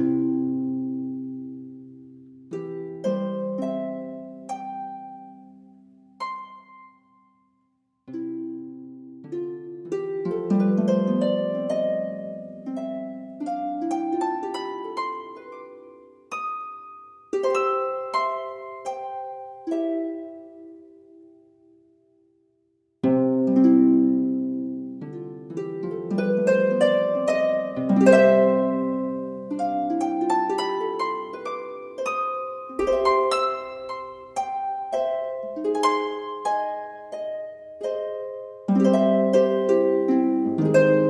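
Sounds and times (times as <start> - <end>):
gentle plucked melody: 0.0 - 22.3, 23.0 - 41.0.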